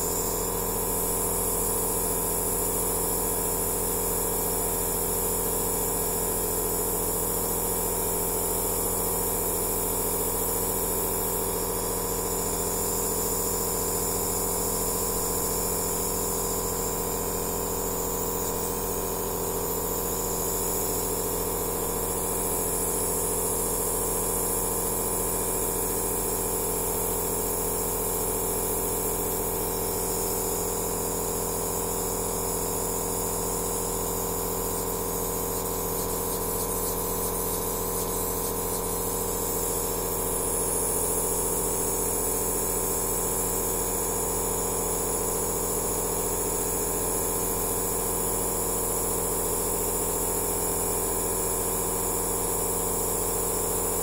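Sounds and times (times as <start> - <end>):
nebulizer motor hum: 0.0 - 44.0.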